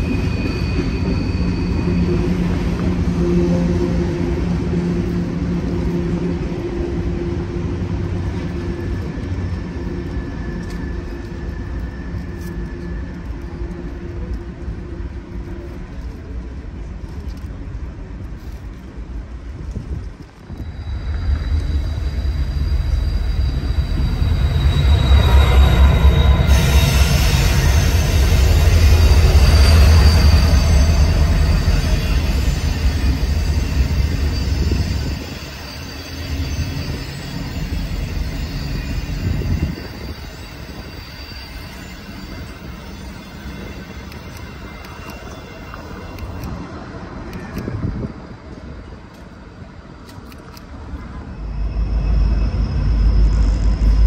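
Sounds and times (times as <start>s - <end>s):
train wheel squeal: 0.0s - 17.6s, 18.4s - 49.2s, 50.0s - 54.0s
diesel locomotive engine drone: 0.0s - 54.0s
freight train cars rumbling: 0.0s - 54.0s.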